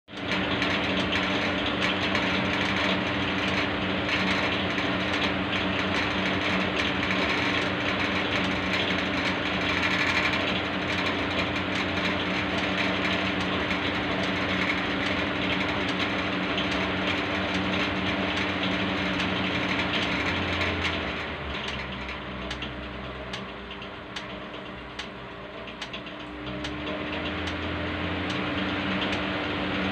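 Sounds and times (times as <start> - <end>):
electric machinery humming and clattering: 0.1 - 29.9.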